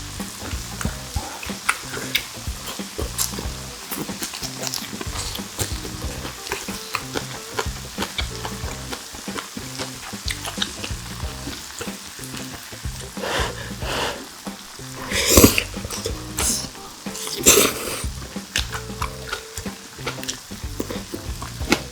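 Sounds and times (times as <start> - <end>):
crackling pops: 0.0 - 21.9
loud fat bursts: 0.0 - 21.9
meat sizzling on a grill: 0.0 - 21.9.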